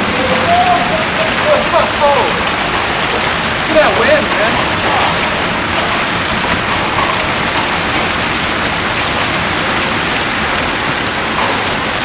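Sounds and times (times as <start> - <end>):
heavy hail and rain: 0.0 - 12.0.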